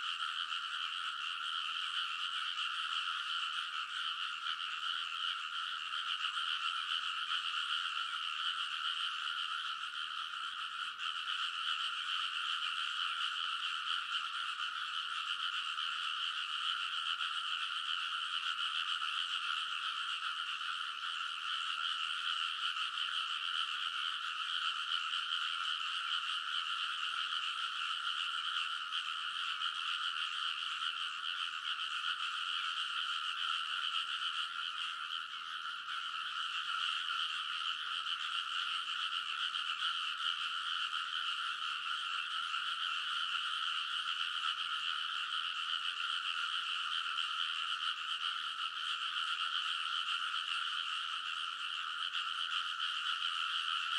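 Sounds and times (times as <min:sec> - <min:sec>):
chorus of frogs calling: 0:00.0 - 0:53.9.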